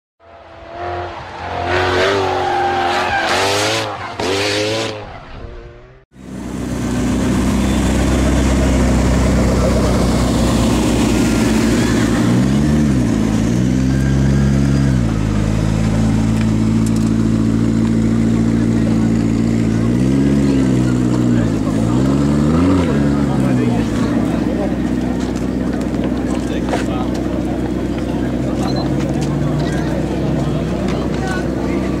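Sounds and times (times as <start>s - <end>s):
car engine revving and idling: 0.3s - 32.0s.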